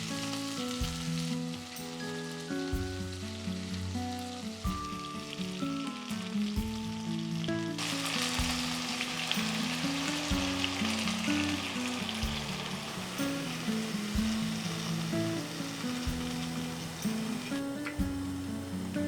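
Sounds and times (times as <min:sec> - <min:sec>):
background music with simple melody: 0:00.0 - 0:19.0
food sizzling in a pan: 0:00.0 - 0:19.0.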